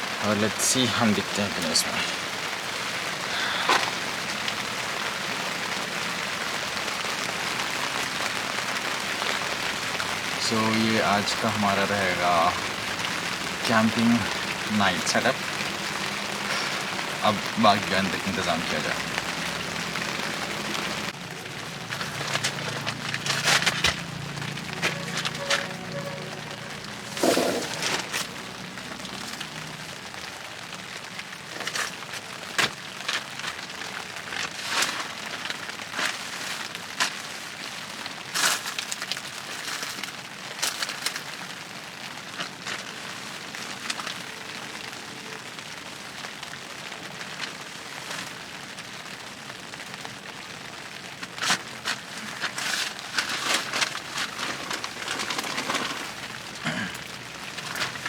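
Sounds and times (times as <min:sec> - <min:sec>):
rain on tent fabric: 0:00.0 - 0:58.0
ticks of heavier raindrops: 0:00.0 - 0:58.0.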